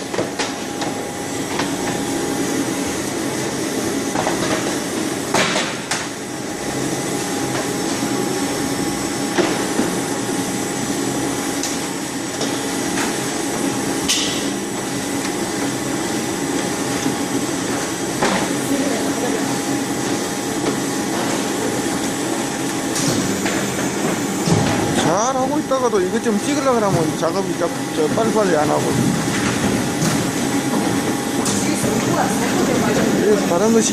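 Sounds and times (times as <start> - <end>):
machinery humming: 0.0 - 33.9.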